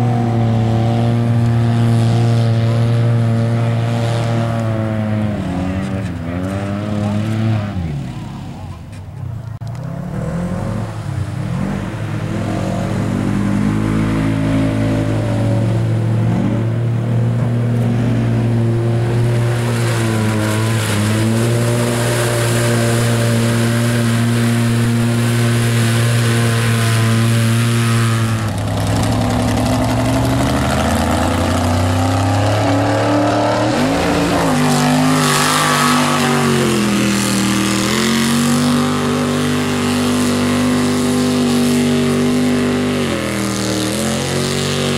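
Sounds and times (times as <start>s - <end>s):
utility vehicle churning through mud: 0.0s - 9.1s, 9.7s - 44.9s
truck revving in deep mud: 0.0s - 44.9s.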